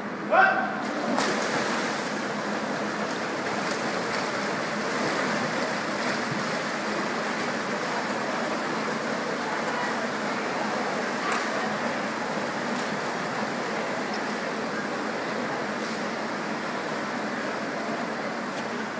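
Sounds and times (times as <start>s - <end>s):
swimmers splashing in pool: 0.5s - 18.9s.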